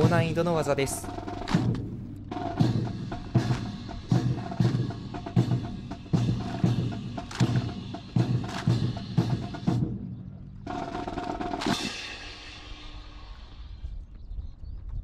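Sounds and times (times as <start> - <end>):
rifles and hands striking rhythmically: 0.0 - 13.0.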